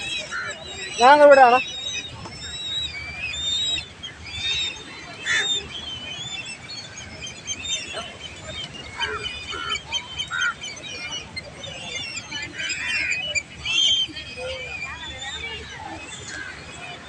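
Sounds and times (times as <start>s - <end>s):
flock of birds chirping: 0.0s - 17.0s.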